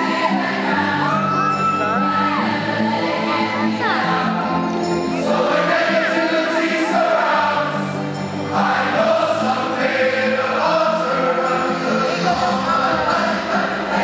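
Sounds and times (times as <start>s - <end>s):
mass choir singing: 0.0s - 14.0s.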